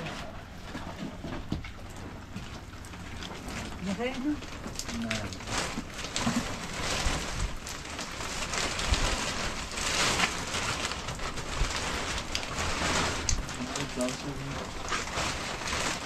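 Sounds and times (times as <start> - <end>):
heavy rain falling: 2.2 - 16.0.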